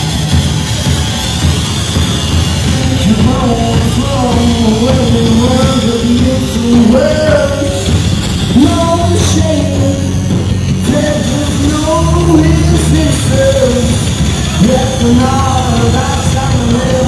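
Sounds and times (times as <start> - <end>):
electric guitar: 0.0 - 17.0
live rock band playing: 0.0 - 17.0
person singing long notes: 2.6 - 17.0.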